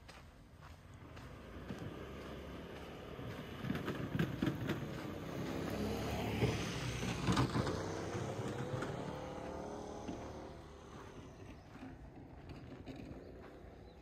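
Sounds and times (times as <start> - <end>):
footsteps: 0.0 - 6.7, 7.6 - 14.0
motor vehicle passing: 0.6 - 14.0.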